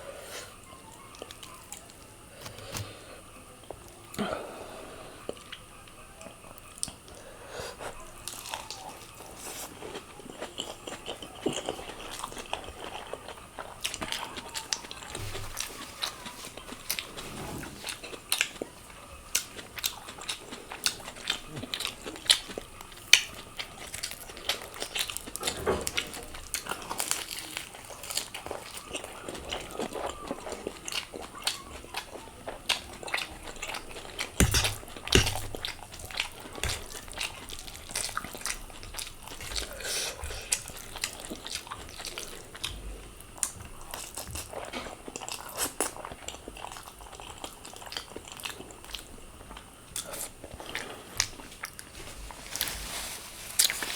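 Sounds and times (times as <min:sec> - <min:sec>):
person chewing noodles: 0:01.0 - 0:03.0, 0:07.8 - 0:51.9.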